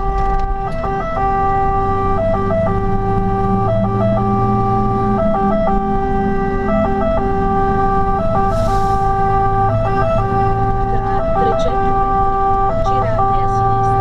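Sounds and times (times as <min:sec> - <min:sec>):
truck engine hum: 0:00.0 - 0:14.0
two-tone siren: 0:00.0 - 0:14.0.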